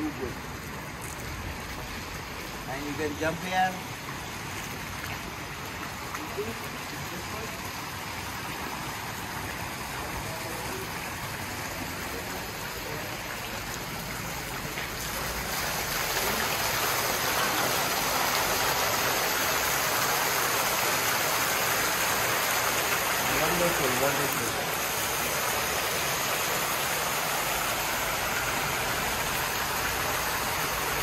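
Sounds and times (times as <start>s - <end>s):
water pouring into pool: 0.0s - 31.0s.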